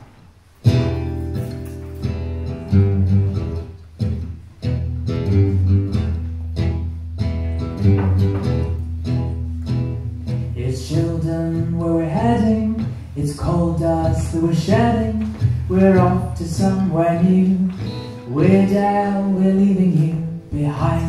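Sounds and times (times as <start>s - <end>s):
acoustic guitar strumming chords: 0.6s - 21.0s.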